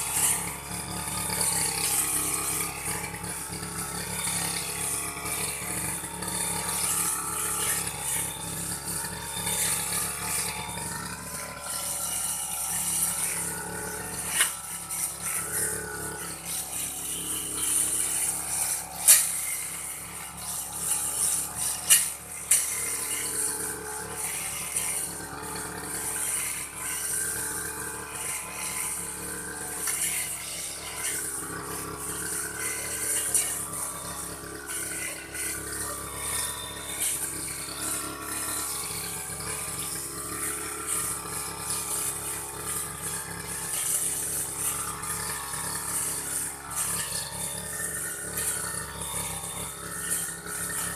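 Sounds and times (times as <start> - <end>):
grass-cutting machine running: 0.0 - 50.9.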